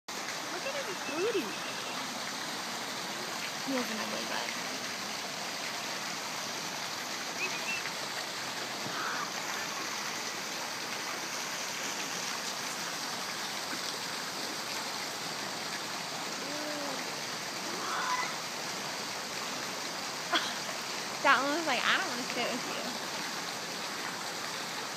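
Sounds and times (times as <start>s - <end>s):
waterfall pouring into a pool: 0.1s - 24.9s.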